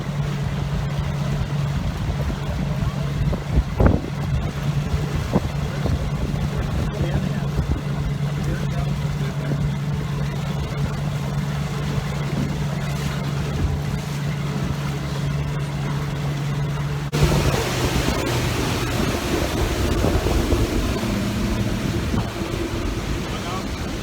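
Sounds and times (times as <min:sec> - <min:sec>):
motorboat engine humming: 0:00.0 - 0:24.0
rushing wind and water: 0:00.0 - 0:24.0.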